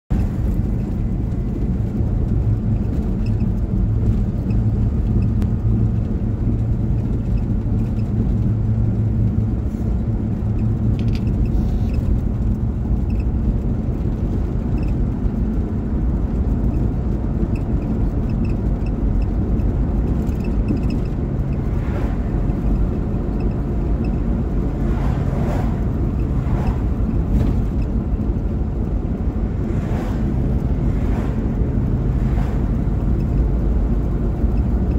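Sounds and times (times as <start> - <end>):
car engine and tyres rumbling: 0.1 - 34.9.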